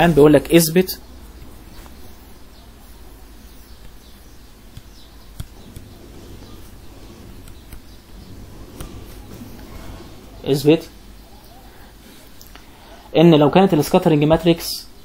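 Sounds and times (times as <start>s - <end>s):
low hum: 0.0s - 13.1s.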